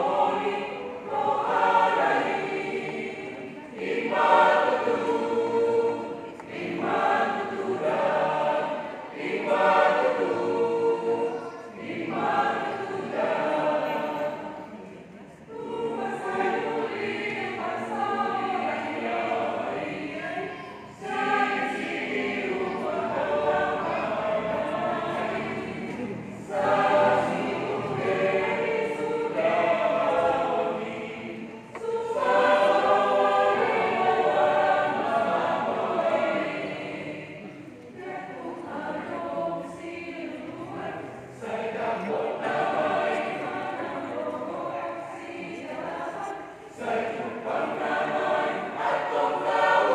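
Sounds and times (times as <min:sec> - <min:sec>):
choir singing: 0:00.0 - 0:49.9.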